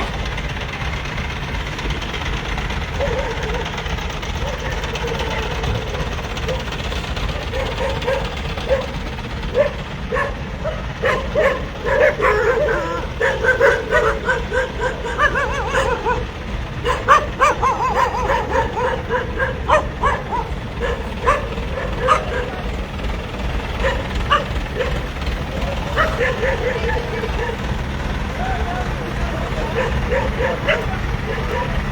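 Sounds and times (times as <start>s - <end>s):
dog barking and yipping: 2.2s - 31.9s.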